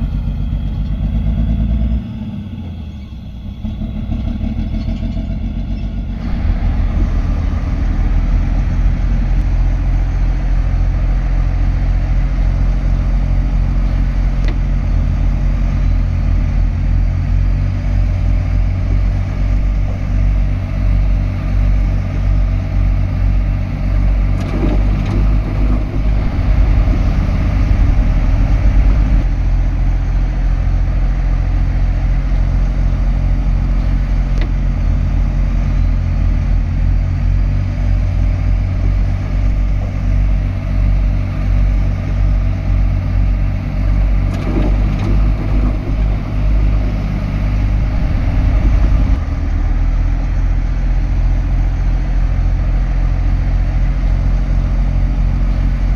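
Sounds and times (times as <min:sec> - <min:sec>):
heavy diesel machinery engine drone: 0:00.0 - 0:55.9.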